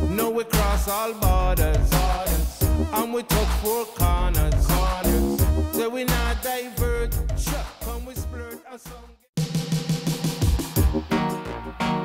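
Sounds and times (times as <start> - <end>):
heavy bass line: 0.0 - 8.5, 10.5 - 12.0
drums: 0.0 - 12.0
dub reggae instrumental: 0.0 - 12.0.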